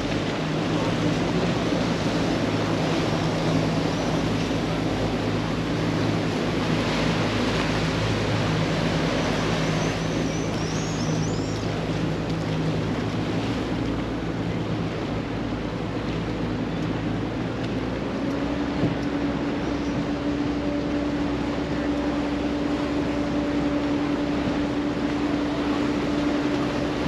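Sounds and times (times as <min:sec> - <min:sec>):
motorboat engine droning: 0:00.0 - 0:27.0
water rushing along hull: 0:00.0 - 0:27.0.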